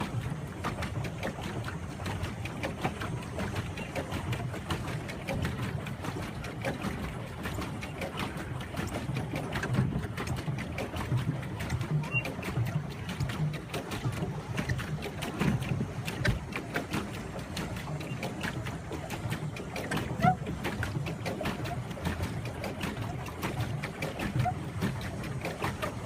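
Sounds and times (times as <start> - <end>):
boat knocking: 0.0 - 26.0
water splashing: 0.0 - 26.0.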